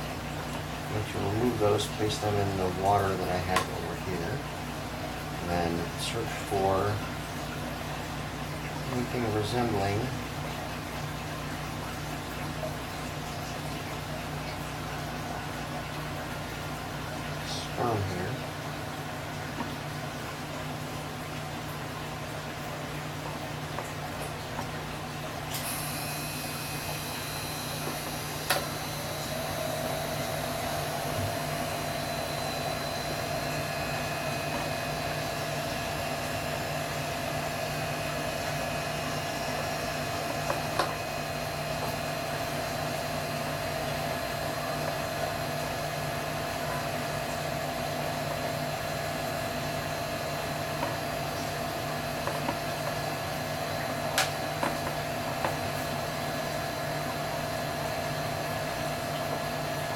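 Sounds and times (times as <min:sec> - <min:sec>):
appliance motor hum: 0:00.0 - 0:59.9.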